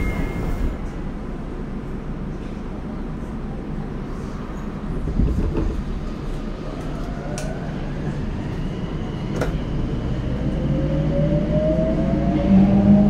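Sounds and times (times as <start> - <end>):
wheels rumbling on track: 0.0 - 13.0.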